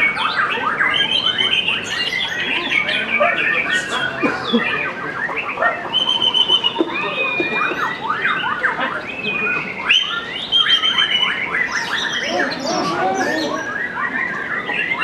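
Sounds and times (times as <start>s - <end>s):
shama singing whistles and trills: 0.0s - 15.0s.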